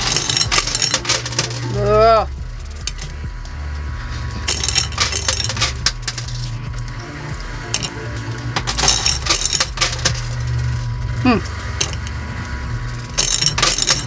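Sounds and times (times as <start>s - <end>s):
coins dropping and clinking: 0.0s - 3.2s, 4.4s - 14.0s
steady low hum: 0.0s - 14.0s.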